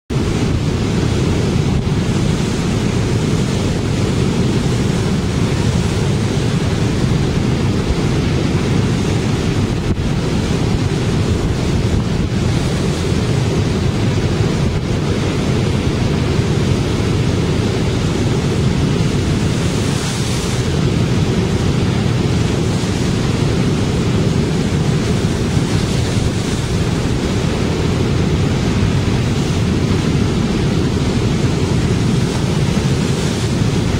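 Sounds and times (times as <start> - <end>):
surf breaking against seawall: 0.1 - 33.9
wind buffeting microphone: 0.1 - 33.9.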